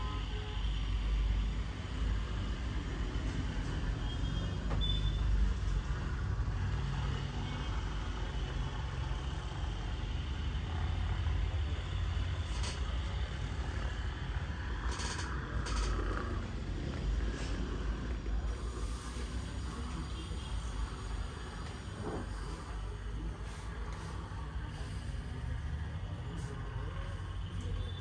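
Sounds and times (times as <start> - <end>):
traffic rumble: 0.6 - 28.0.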